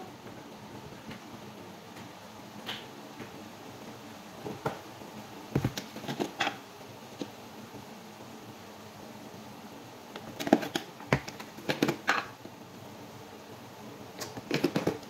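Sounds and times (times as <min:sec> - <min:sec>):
steady low background hum: 0:00.0 - 0:15.0.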